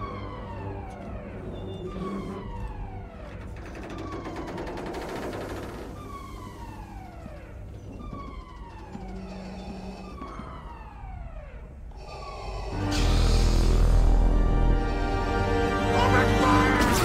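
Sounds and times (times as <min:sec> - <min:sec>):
downward sweeping alarm tone: 0:00.0 - 0:17.0.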